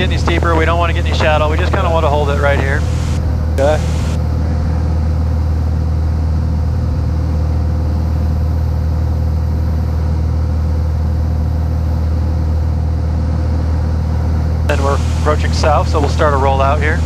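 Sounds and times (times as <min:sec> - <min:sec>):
airplane engine and propeller droning: 0:00.0 - 0:17.0.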